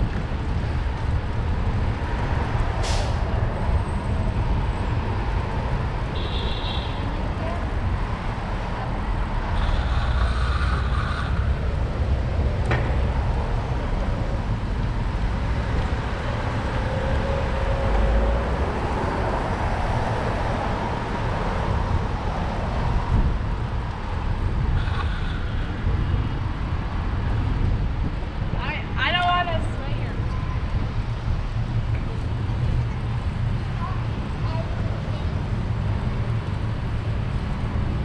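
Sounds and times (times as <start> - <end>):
city street traffic: 0.0 - 38.0.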